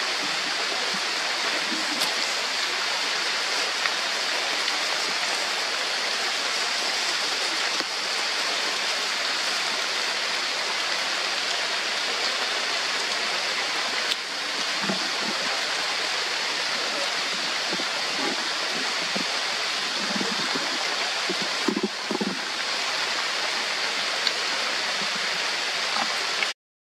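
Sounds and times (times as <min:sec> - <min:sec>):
heavy rain on foliage: 0:00.0 - 0:26.5.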